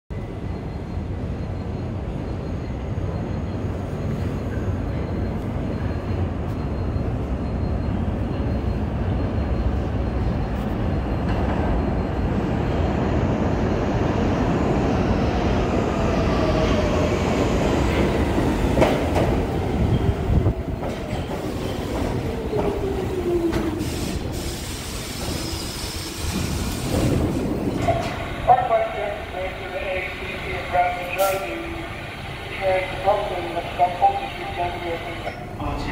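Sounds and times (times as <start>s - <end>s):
subway train rumble: 0.1s - 35.9s.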